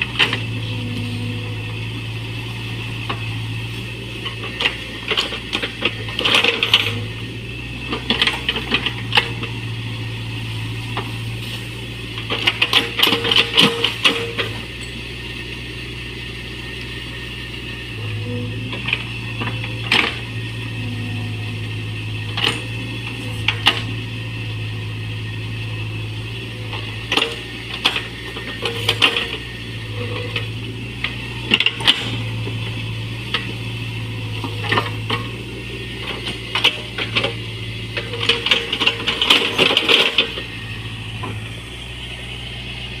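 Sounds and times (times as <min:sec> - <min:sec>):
excavator engine running: 0:00.0 - 0:43.0.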